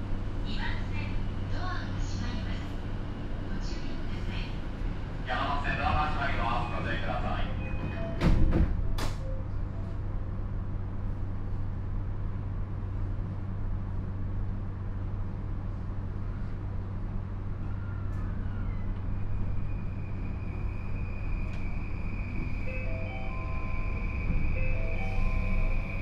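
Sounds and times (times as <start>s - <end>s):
low hum of train equipment: 0.0s - 26.0s.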